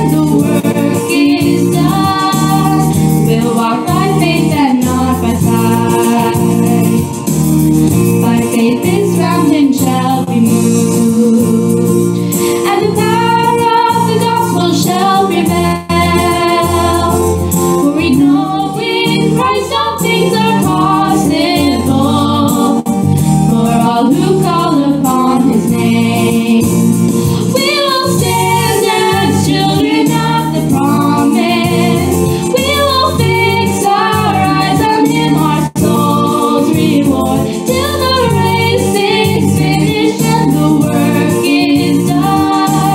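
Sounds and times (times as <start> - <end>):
instrumental accompaniment: 0.0 - 42.9
voices singing gospel song: 0.0 - 42.9.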